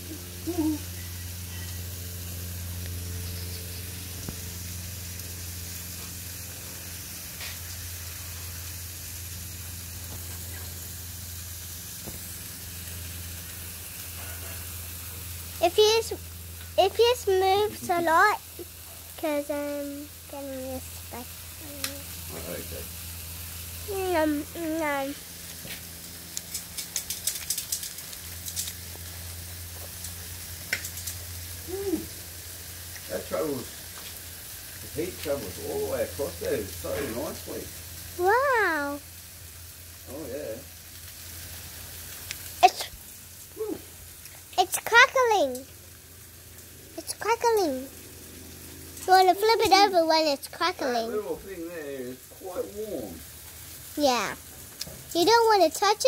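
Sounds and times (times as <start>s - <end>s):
fat crackling and popping: 0.0s - 56.0s
meat sizzling on a barbecue: 0.0s - 56.0s.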